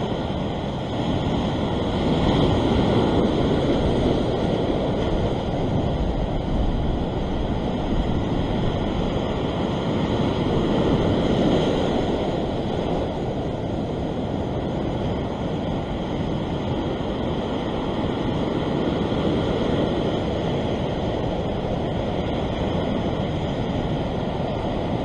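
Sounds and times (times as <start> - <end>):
surf breaking over rocks: 0.0 - 25.0
wind on microphone: 0.0 - 25.0.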